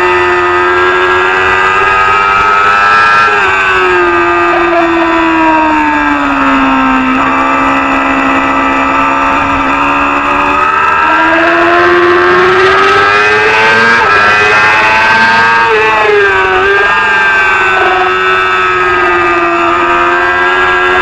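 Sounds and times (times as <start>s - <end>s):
racing motorcycle engine: 0.0s - 21.0s.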